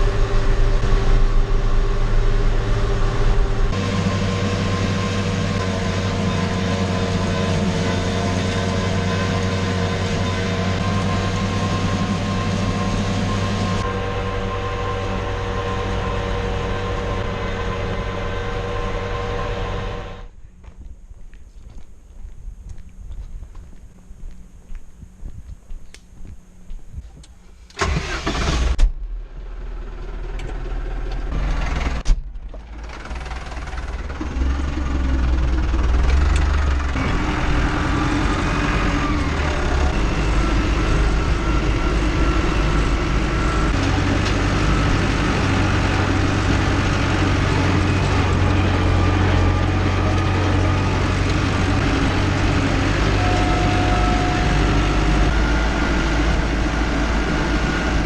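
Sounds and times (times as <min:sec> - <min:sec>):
tractor engine running: 0:00.0 - 0:20.3, 0:23.1 - 0:58.0.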